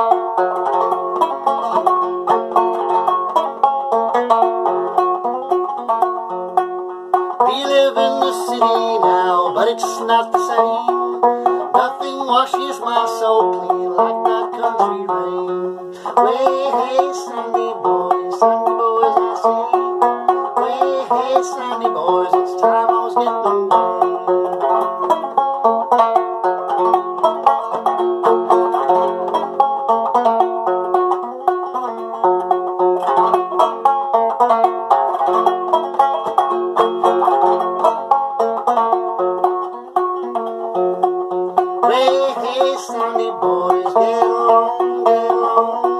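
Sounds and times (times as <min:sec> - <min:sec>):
banjo playing: 0:00.0 - 0:45.9.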